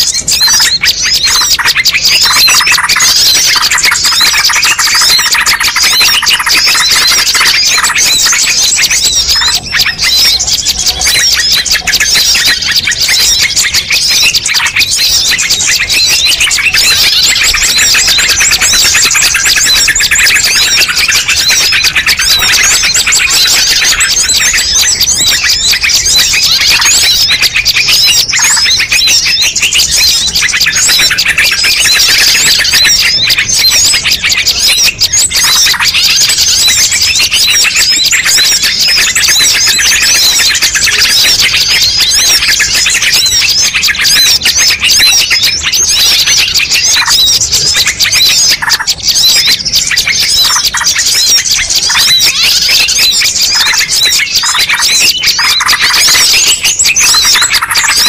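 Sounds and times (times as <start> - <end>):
chorus of birds chirping: 0.0 - 58.0.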